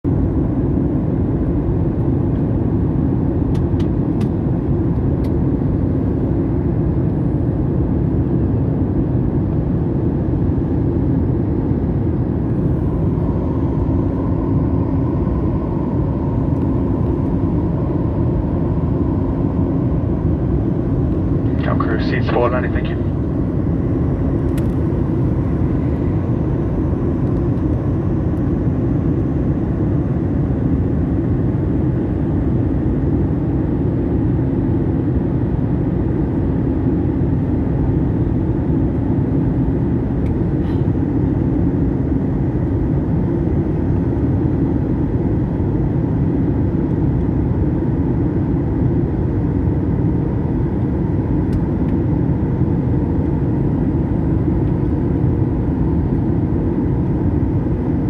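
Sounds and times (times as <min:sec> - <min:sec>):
jet cabin engine drone: 0:00.0 - 0:58.0.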